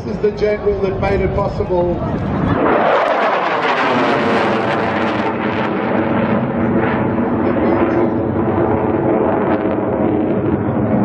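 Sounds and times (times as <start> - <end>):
jet fighter engine rumble: 0.0 - 11.0.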